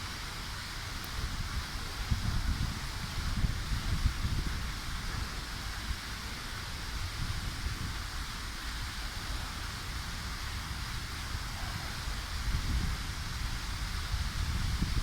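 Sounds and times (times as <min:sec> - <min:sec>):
wind buffeting microphone: 0:00.0 - 0:15.0
wind through foliage: 0:00.0 - 0:15.0.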